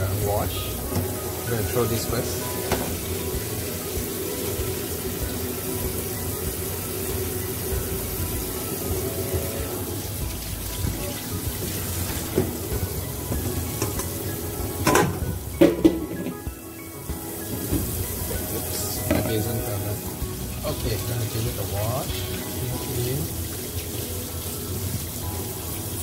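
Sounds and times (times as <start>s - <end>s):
water splashing over meat: 0.0s - 16.2s, 17.1s - 26.0s
tap water running into a sink: 0.0s - 26.0s.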